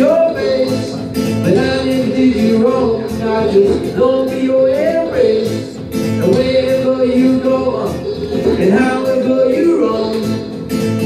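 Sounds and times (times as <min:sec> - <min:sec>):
looped backing music with guitar: 0:00.0 - 0:11.0
man singing into a microphone: 0:00.0 - 0:11.0.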